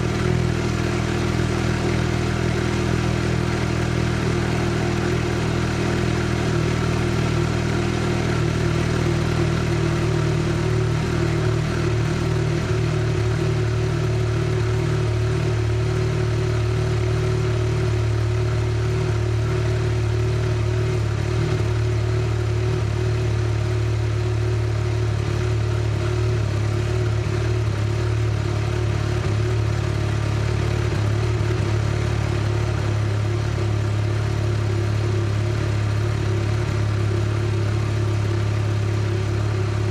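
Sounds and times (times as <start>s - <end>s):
rotary engine running steadily: 0.0s - 39.9s.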